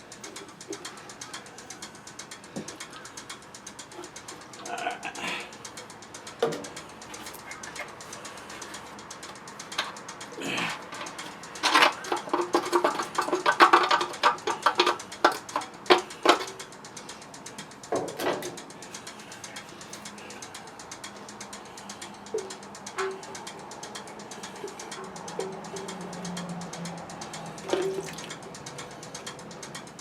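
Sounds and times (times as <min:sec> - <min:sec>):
metal tools clicking and clattering: 0:00.2 - 0:29.8.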